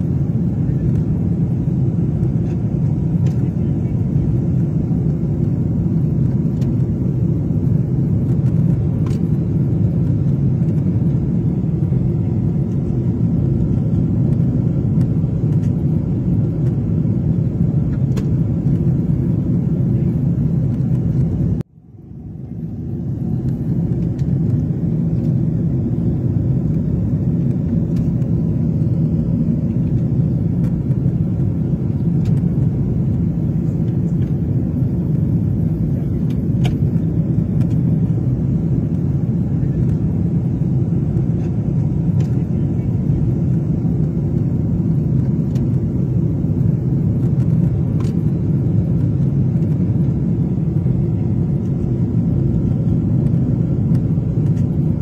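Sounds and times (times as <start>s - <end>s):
airliner engine rumble in cabin: 0.0s - 55.0s.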